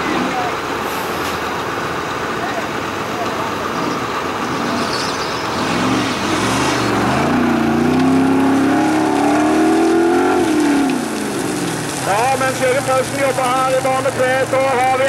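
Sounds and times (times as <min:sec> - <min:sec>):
buggy engine running hard: 0:00.0 - 0:15.0.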